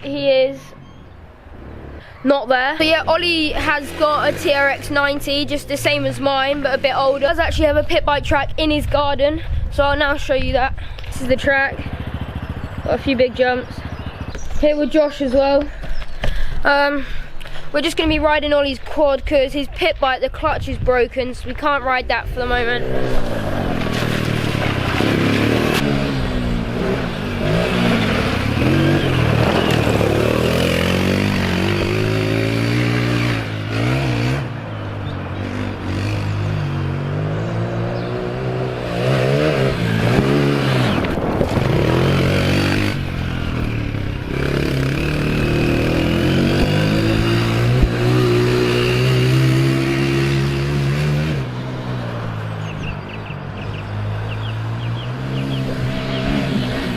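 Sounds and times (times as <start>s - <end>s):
quad engine revving: 2.8s - 9.1s, 11.1s - 15.6s, 21.6s - 56.9s.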